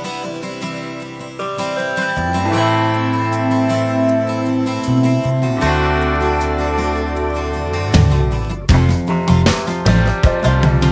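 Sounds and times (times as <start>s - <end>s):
background guitar music: 0.0s - 10.9s.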